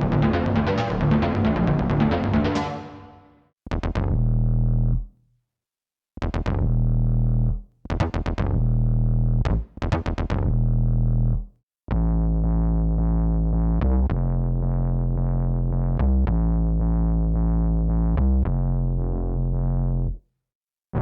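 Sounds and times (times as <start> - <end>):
low synth bass line: 0.0 - 3.3, 6.4 - 20.2
plucky synth bass notes: 0.0 - 5.0, 6.2 - 20.2.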